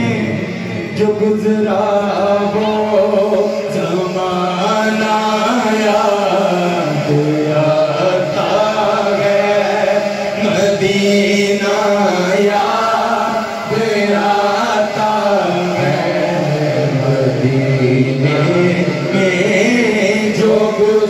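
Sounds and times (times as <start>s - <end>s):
man singing long notes: 0.0s - 21.0s.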